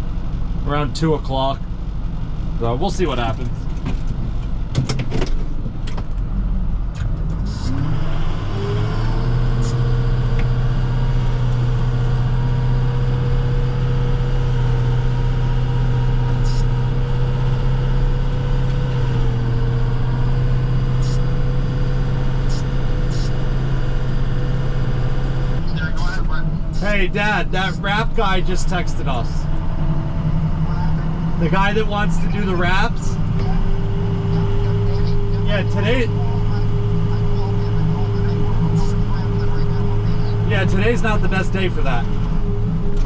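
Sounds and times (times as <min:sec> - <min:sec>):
truck engine accelerating: 0:00.0 - 0:43.0.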